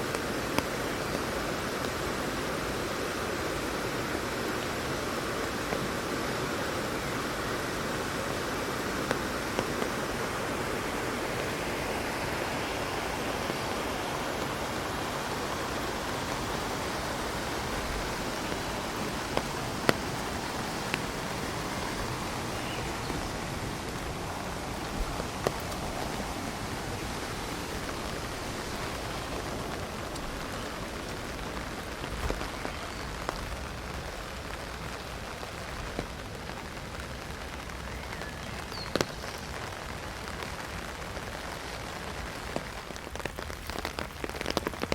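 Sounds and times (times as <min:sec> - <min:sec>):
heavy rain on an umbrella: 0:00.0 - 0:44.9.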